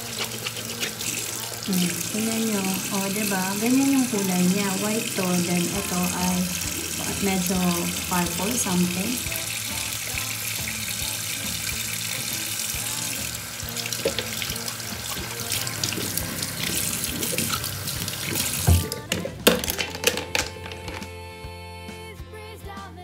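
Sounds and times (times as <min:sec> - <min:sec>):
brushes scrubbed in water: 0:00.0 - 0:21.1
tap water running into bowl: 0:00.0 - 0:21.1.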